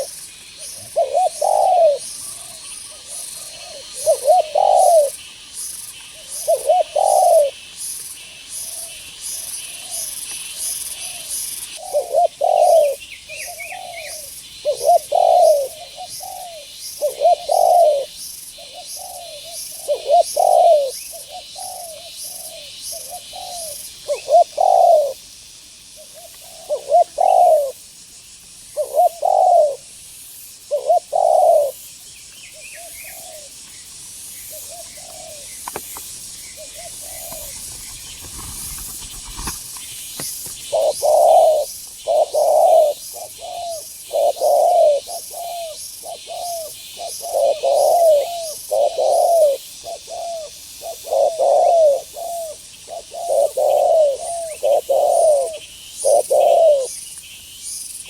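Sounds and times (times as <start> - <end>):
doves cooing: 0.0 - 5.3, 6.1 - 7.7, 8.6 - 25.2, 26.0 - 27.8, 28.8 - 29.9, 30.7 - 31.9, 32.5 - 33.6, 34.5 - 57.0.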